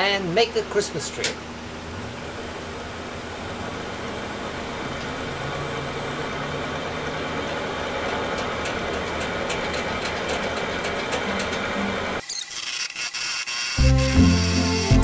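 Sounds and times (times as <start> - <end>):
wood lathe spinning: 1.4 - 15.0.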